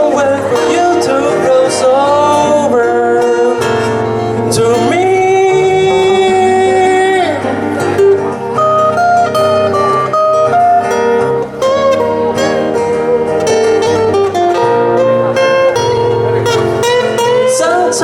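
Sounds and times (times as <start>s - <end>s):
acoustic guitars playing: 0.0s - 18.0s.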